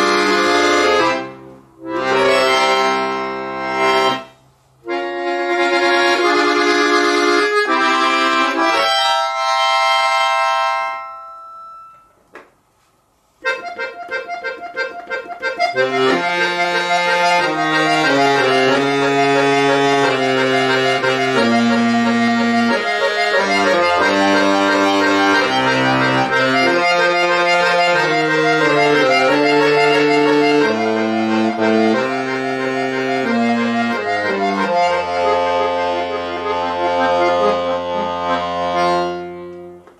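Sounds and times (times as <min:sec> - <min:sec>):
accordion playing: 0:00.0 - 0:12.2, 0:13.2 - 0:39.9.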